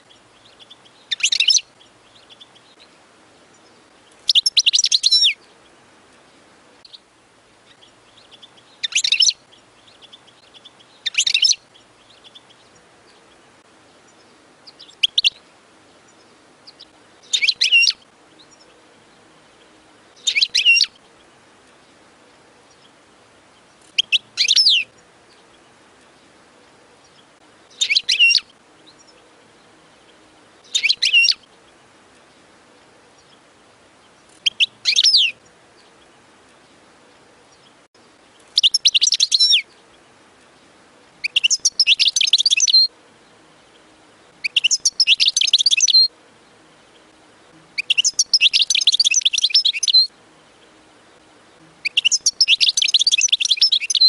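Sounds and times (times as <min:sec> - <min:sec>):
goldfinch twittering song: 0:00.0 - 0:54.0.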